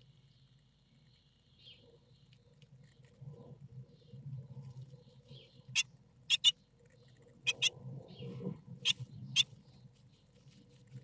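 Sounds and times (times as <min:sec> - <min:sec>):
nestlings peeping softly: 0:00.0 - 0:11.0.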